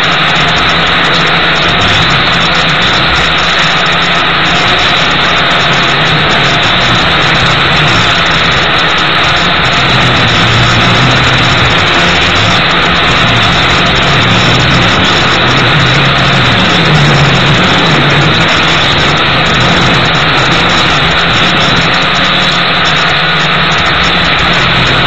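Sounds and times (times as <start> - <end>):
quadcopter motors buzzing: 0.0 - 25.0
wind noise: 0.0 - 25.0.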